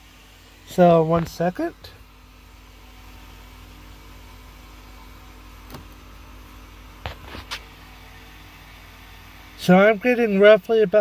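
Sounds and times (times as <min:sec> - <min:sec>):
car cabin hum and hiss: 0:00.0 - 0:11.0.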